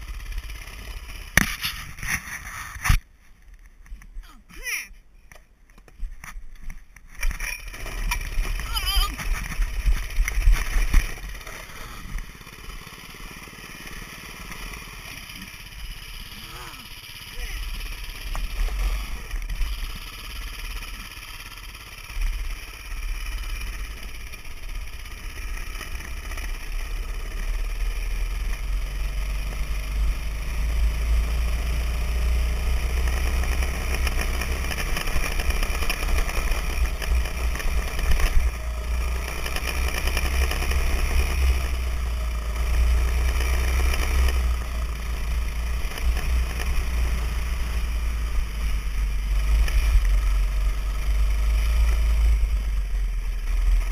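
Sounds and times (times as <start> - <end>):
dirt bike engine rumbling: 0.0 - 4.4, 5.1 - 53.9.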